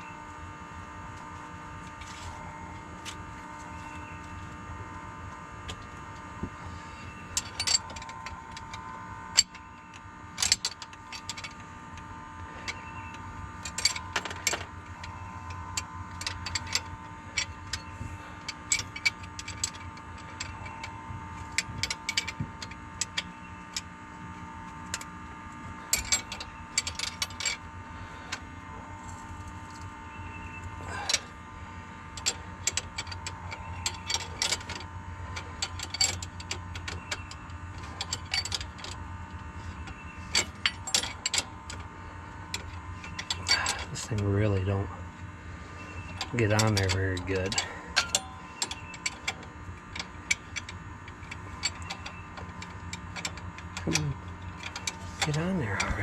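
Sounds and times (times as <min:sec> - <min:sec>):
steady high hum: 0:00.0 - 0:56.0.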